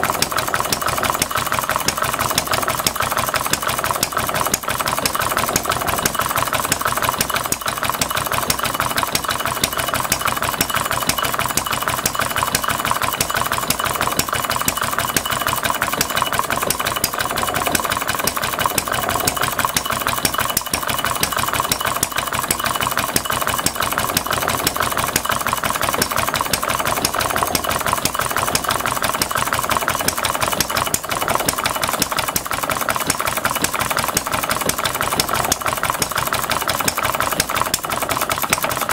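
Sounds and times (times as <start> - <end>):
small engine popping: 0.0 - 38.9.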